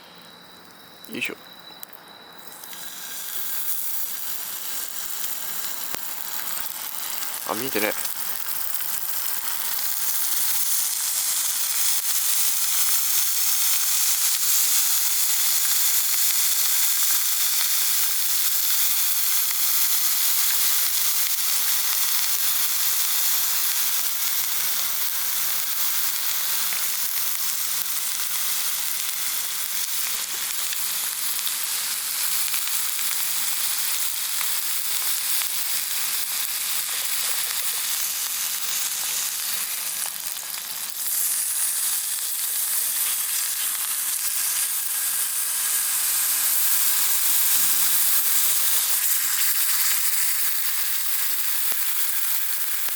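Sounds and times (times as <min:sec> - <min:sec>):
meat sizzling in a wok: 0:02.4 - 0:52.9.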